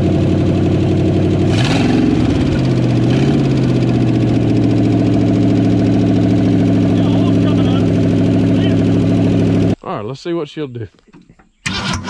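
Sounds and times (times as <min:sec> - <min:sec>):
car engine revving and idling: 0:00.0 - 0:09.8.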